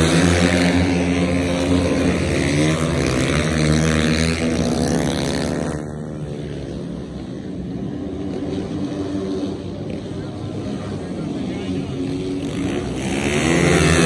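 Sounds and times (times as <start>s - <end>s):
motorcycles revving past: 0.0s - 14.0s.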